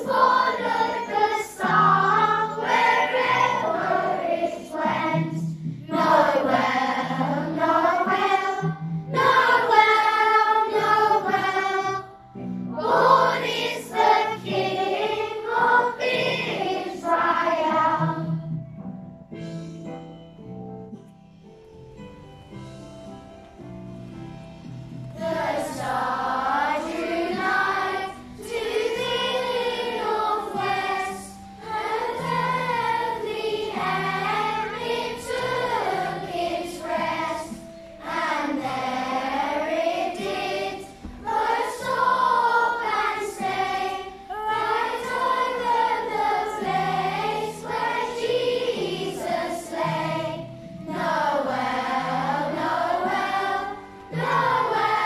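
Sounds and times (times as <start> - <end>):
children's choir singing a carol: 0.0 - 18.6, 25.1 - 55.0.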